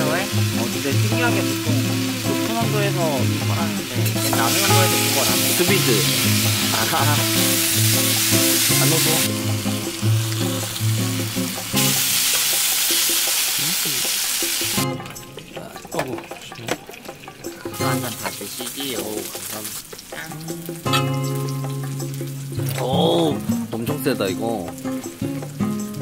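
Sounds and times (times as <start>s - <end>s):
meat sizzling on a grill pan: 0.0s - 14.9s, 17.2s - 26.0s
background music: 0.0s - 26.0s.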